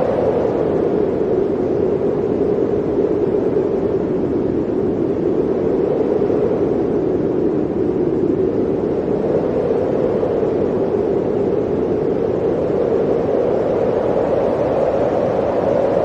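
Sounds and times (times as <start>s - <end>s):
blizzard wind blowing: 0.0s - 16.0s.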